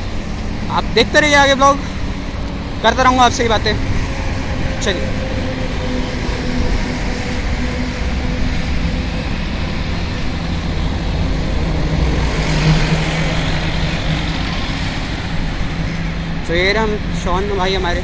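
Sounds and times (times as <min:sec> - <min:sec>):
rumble of road traffic: 0:00.0 - 0:18.0
truck engine hum: 0:00.0 - 0:18.0.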